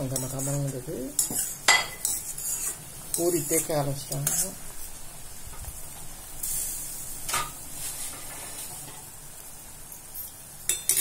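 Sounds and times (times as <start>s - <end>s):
ladle stirring in pan: 0.0s - 9.1s.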